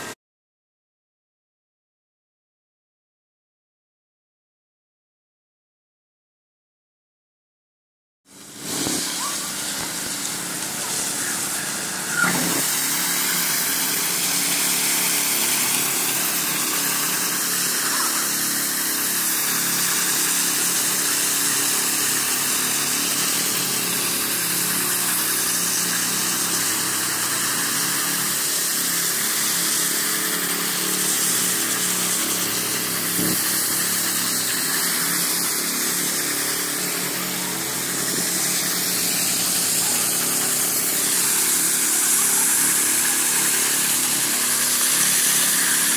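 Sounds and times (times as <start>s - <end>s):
power trowel engines running: 8.3s - 45.9s.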